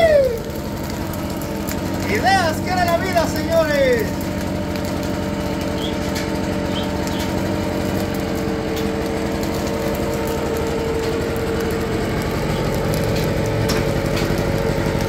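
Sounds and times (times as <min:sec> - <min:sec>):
leaf blower running: 0:00.0 - 0:15.0.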